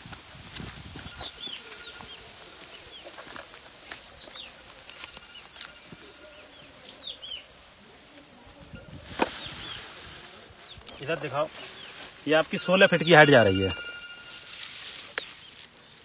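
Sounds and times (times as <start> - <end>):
rustling of dry leaves underfoot: 0.0 - 16.0.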